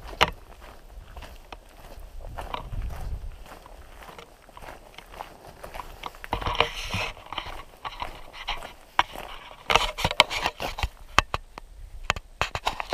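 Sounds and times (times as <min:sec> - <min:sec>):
footsteps crunching on trail: 0:00.0 - 0:11.6.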